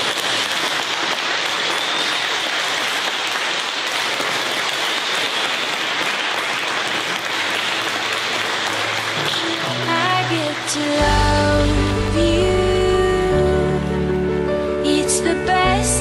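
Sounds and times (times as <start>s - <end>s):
congregation applauding: 0.0s - 12.9s.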